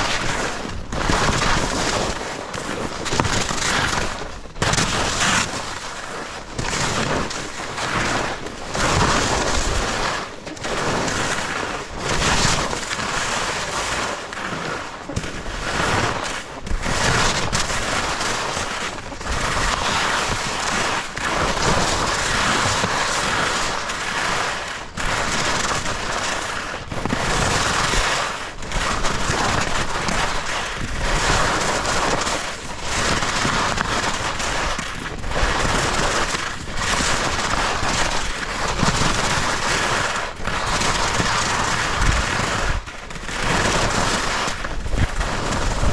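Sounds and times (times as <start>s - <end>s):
sharp crackles: 0.0s - 45.9s
skis running over snow: 0.0s - 45.9s.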